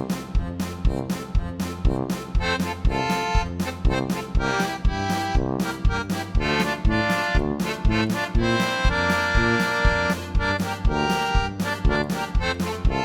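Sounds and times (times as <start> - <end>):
accordion-like melody: 0.0 - 13.0
steady music beat: 0.0 - 13.0.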